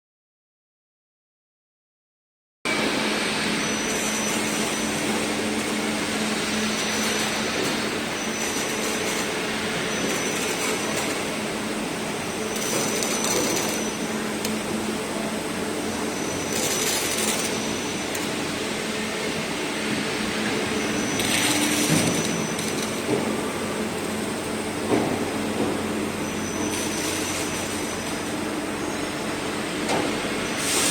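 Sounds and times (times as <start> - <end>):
short high machine whines: 2.7 - 23.6, 26.1 - 30.9
roll forming machine hum and hiss: 2.7 - 30.9.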